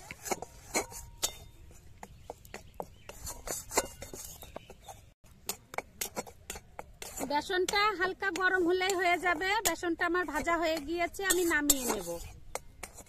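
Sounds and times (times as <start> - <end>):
steel spatula scraping a wok: 0.0 - 13.0.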